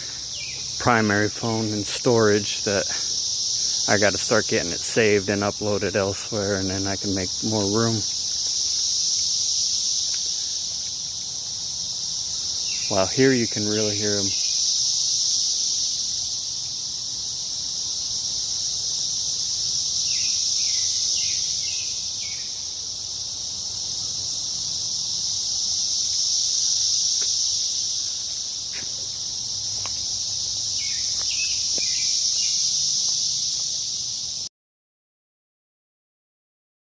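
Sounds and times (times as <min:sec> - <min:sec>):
cicadas buzzing: 0:00.0 - 0:34.5.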